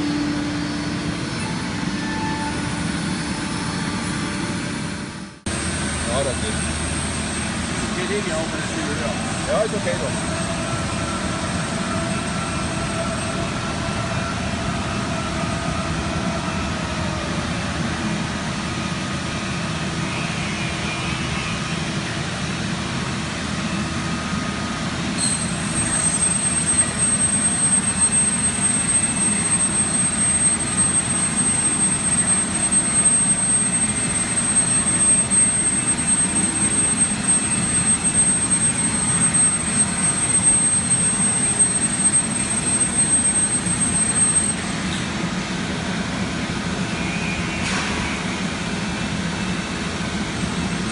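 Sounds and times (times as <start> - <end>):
high steady machine whine: 0.0 - 50.9
machine mechanical hum: 0.0 - 50.9.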